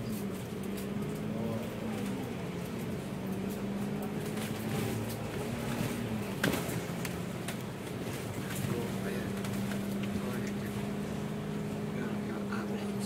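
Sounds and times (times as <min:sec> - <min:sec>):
bus engine low drone: 0:00.0 - 0:13.0.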